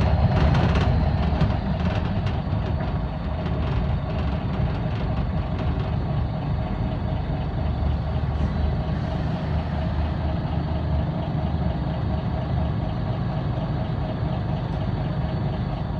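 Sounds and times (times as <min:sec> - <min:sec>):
bus diesel engine idling: 0:00.0 - 0:15.9.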